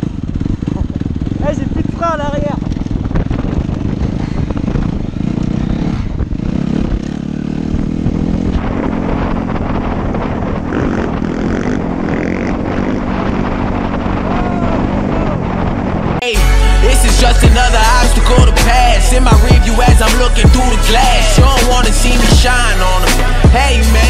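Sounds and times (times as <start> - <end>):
dirt bike engine running: 0.0 - 16.2, 17.1 - 24.0.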